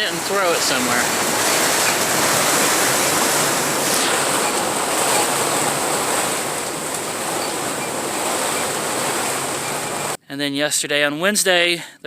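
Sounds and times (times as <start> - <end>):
steady rushing noise: 0.0 - 10.2.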